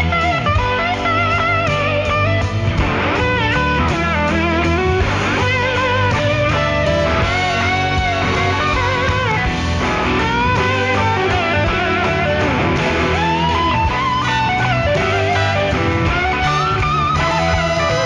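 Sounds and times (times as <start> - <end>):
bass line: 0.0 - 18.0
blues-rock band playing: 0.0 - 18.0
electric guitar gliding notes: 0.0 - 18.0.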